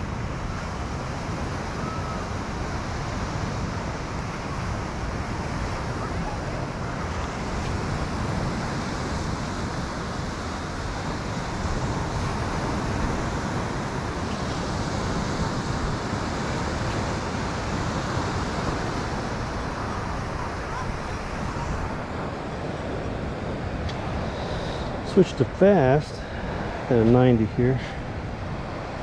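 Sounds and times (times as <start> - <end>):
wind noise on microphone: 0.0 - 25.1
surf washing onto beach: 0.0 - 29.0.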